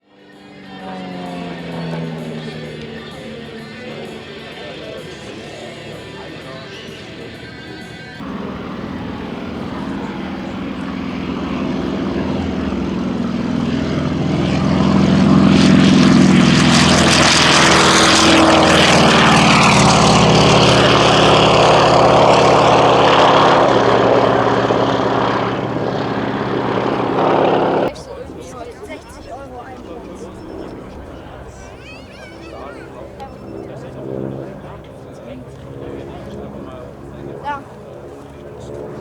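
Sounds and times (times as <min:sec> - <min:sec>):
propeller aircraft flying past: 0:00.0 - 0:39.0.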